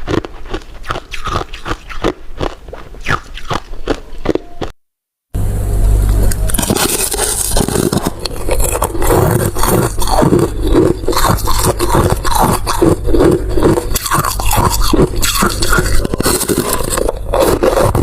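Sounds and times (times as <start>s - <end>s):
chewing with wet mouth clicks: 0.0s - 4.7s, 7.7s - 18.0s
steady low hum: 0.0s - 18.0s.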